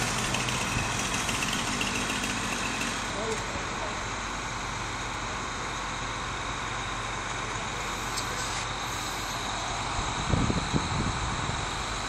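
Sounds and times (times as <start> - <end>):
crane engine running: 0.0 - 12.0.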